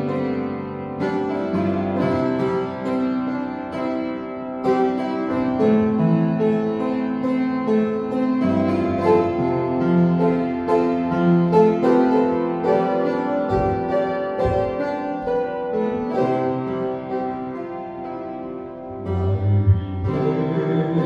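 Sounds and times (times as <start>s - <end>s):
upright piano playing chords: 0.0s - 21.0s.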